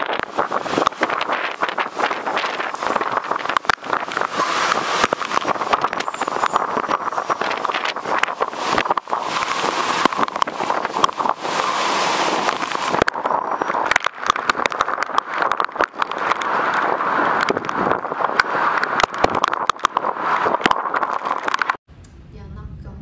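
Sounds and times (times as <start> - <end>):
wind and driving rain: 0.0 - 21.8.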